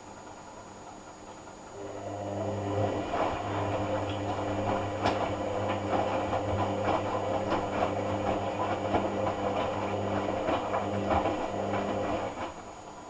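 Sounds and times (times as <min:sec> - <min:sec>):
washing machine motor hum: 0:00.0 - 0:13.0
water and laundry sloshing: 0:02.0 - 0:12.8.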